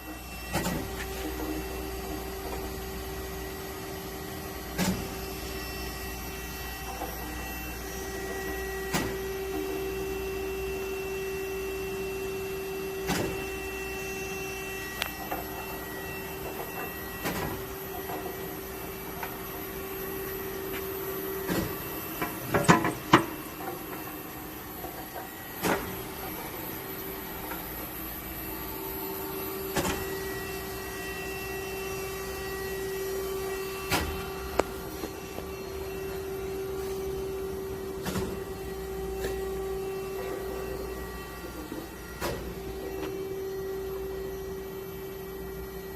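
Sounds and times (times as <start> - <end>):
grinding machine humming: 0.0 - 45.9.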